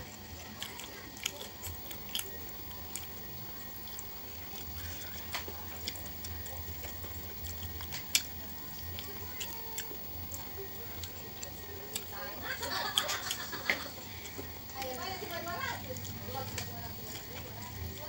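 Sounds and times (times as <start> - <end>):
child chewing food: 0.0 - 18.0.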